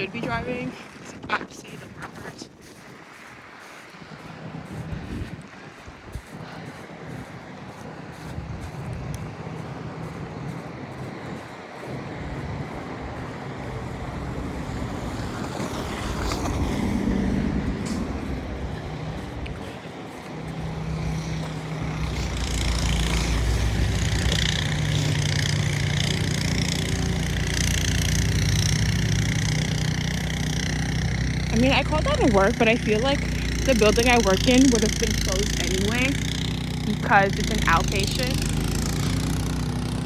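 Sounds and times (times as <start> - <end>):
vehicle engine running: 6.0 - 40.0.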